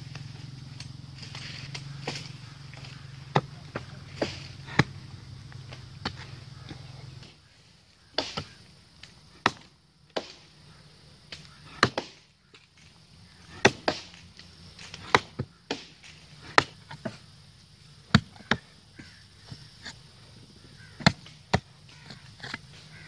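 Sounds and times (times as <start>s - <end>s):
mattock chopping soil and roots: 0.1s - 10.6s, 11.2s - 20.0s, 20.6s - 23.0s.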